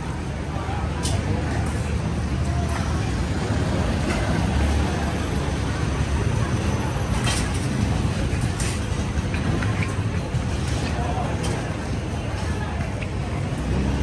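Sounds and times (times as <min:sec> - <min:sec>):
passing vehicles rumbling: 0:00.0 - 0:14.0.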